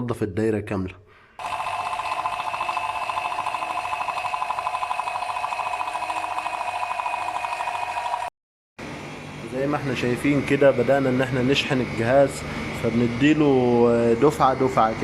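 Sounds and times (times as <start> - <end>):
vacuum pump running: 1.4 - 15.0.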